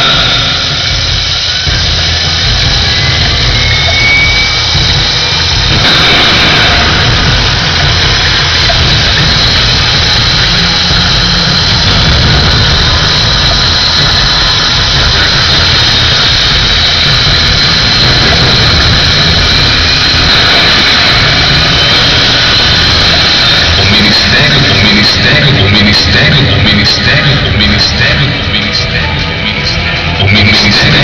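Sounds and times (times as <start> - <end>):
distorted loud funk music: 0.0 - 31.0.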